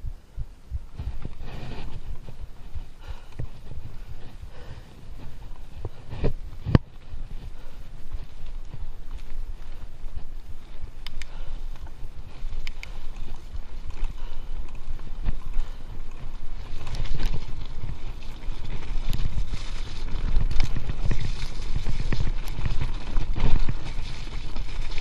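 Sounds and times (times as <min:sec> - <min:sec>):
tyres rolling on dirt trail: 0:00.0 - 0:25.0
wind rumble on microphone: 0:00.0 - 0:25.0
bike chain and frame rattling: 0:01.2 - 0:25.0.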